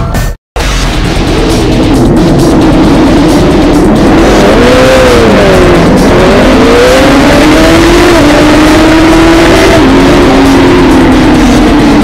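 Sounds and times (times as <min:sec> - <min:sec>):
other race bikes: 0:00.9 - 0:12.0
motorcycle engine at racing revs: 0:01.2 - 0:12.0.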